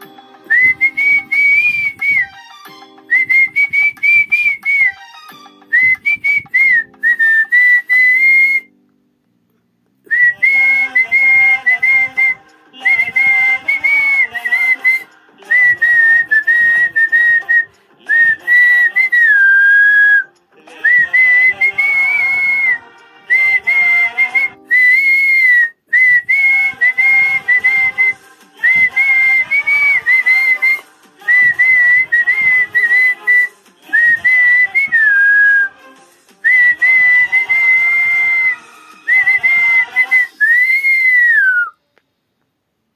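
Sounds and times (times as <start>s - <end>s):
man whistling a melody: 0.4s - 8.8s, 10.1s - 35.8s, 36.4s - 41.9s.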